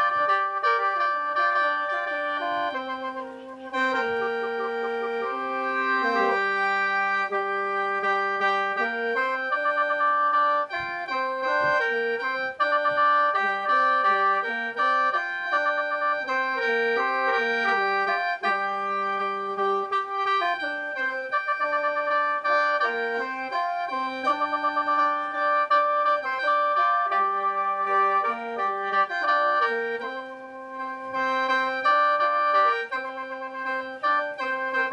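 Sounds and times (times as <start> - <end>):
mouth organ drone notes: 0.0 - 34.9
mouth organ melody with trills: 0.0 - 34.9.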